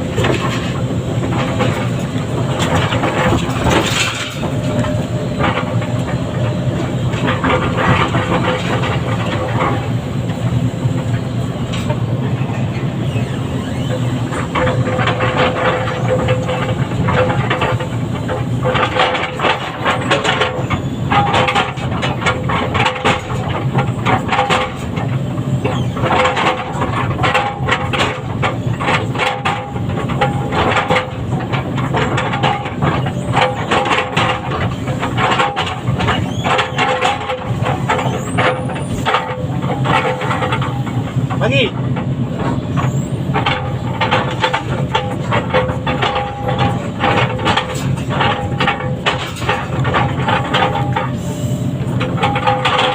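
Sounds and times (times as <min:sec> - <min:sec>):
diesel engine drone: 0:00.0 - 0:52.9
machinery whine: 0:00.0 - 0:52.9
metallic clatter and rattling: 0:00.0 - 0:52.9.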